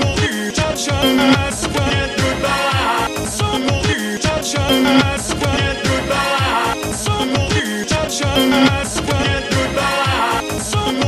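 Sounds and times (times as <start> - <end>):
meme music remix: 0.0 - 11.0.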